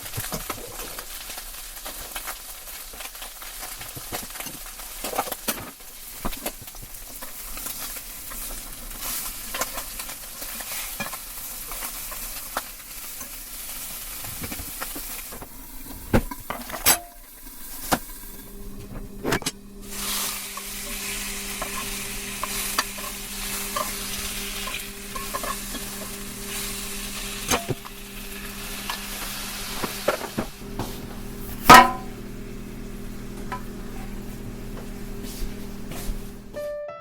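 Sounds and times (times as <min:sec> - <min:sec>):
food sizzling in a frying pan: 0:00.0 - 0:36.6.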